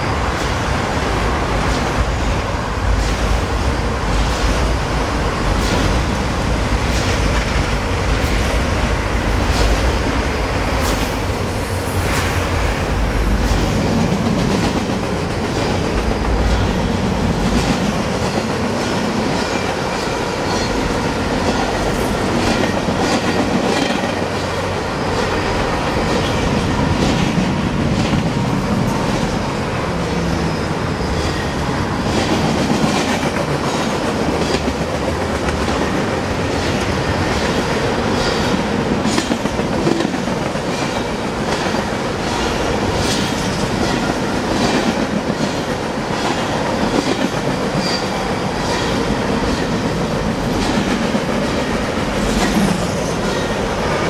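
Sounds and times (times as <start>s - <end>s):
steel wheels rumbling on rail: 0.0s - 54.0s
clickety-clack over rail joints: 0.4s - 30.2s, 31.0s - 54.0s.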